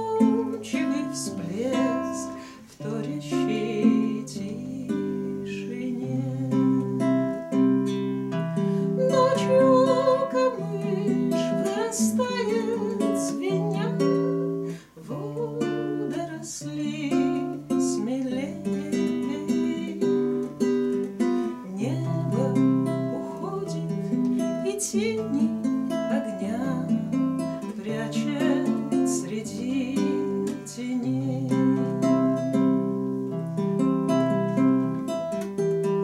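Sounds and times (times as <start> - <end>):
classical guitars fingerpicked: 0.0 - 36.0.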